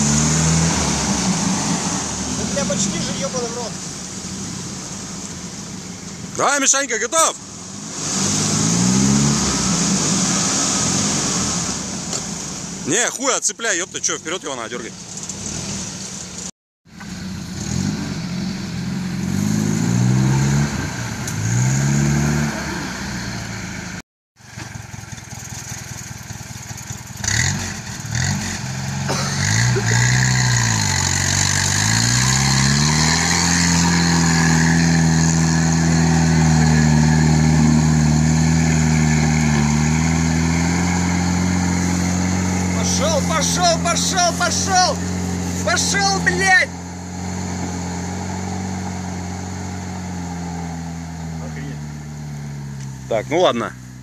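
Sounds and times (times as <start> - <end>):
off-road vehicle engine revving: 0.0 - 24.8, 26.3 - 54.0.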